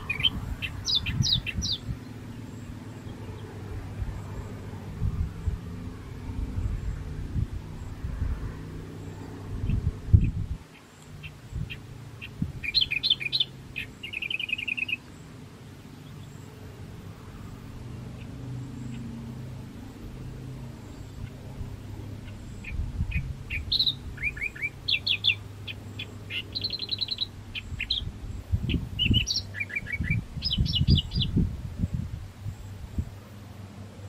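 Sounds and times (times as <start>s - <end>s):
small birds chirping: 0.0s - 33.4s
steady low hum: 0.0s - 34.0s.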